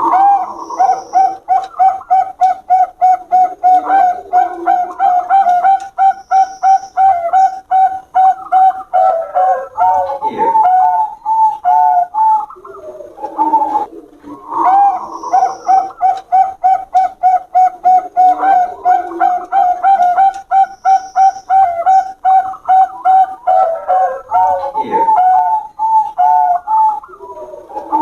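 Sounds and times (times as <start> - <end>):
doves cooing: 0.0 - 28.0.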